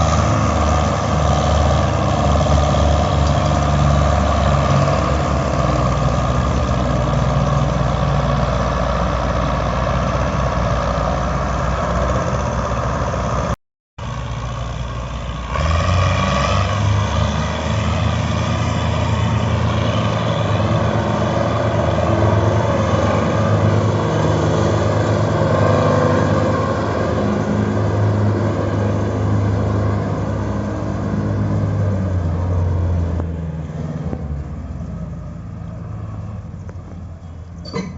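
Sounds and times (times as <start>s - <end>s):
tractor diesel engine running hard: 0.0s - 37.9s.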